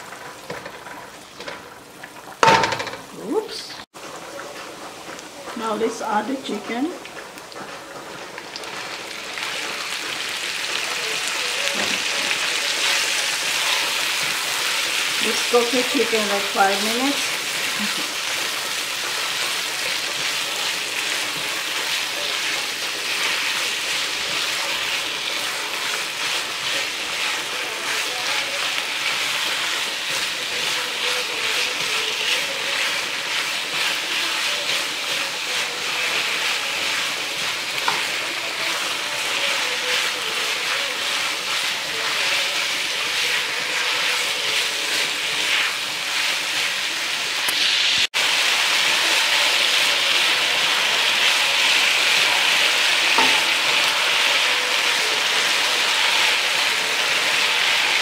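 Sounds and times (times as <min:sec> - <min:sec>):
chicken sizzling in a frying pan: 0:00.0 - 0:58.0.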